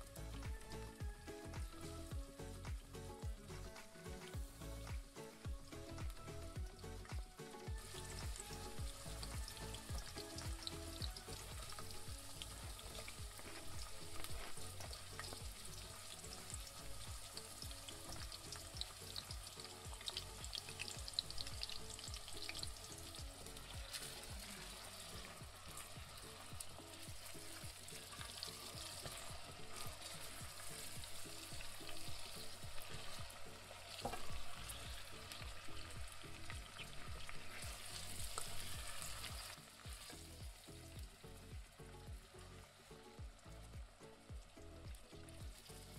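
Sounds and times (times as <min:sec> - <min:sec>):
vegetables sizzling in a pan: 0:04.3 - 0:45.9.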